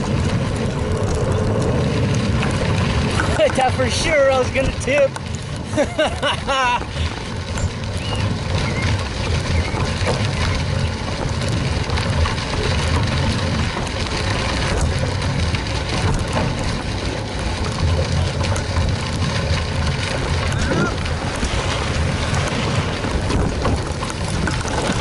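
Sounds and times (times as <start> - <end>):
bike tyres crunching on grit: 0.0 - 25.0
small scattered clicks: 0.0 - 25.0
wind buffeting microphone: 0.0 - 25.0.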